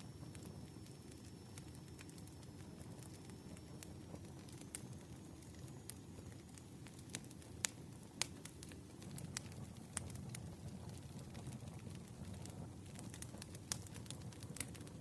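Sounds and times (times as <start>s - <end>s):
campfire crackling and popping: 0.0s - 15.0s
low rumble of burning logs: 0.0s - 15.0s.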